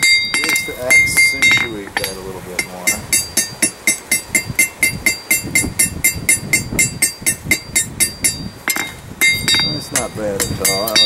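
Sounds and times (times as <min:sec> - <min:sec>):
hammer striking steel on anvil: 0:00.0 - 0:11.0.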